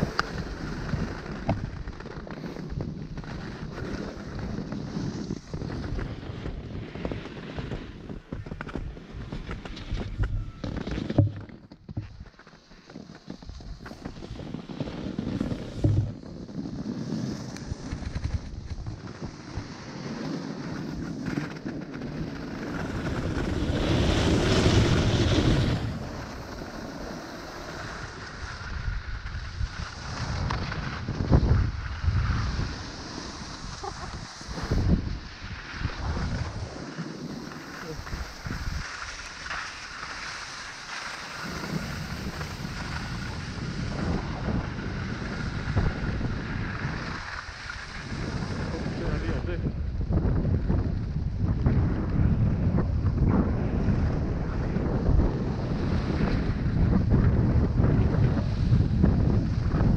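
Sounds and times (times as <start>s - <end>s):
wind rushing over microphone: 0.0s - 12.3s, 13.2s - 59.9s
ski edges scraping snow: 0.0s - 49.6s.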